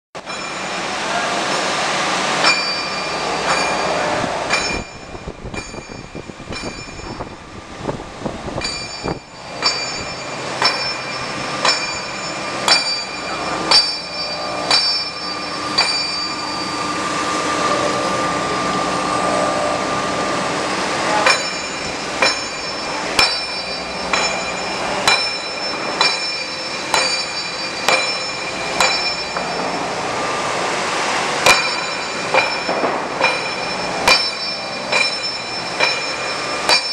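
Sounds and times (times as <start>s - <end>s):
band saw cutting steel: 0.2s - 7.4s, 8.5s - 36.9s.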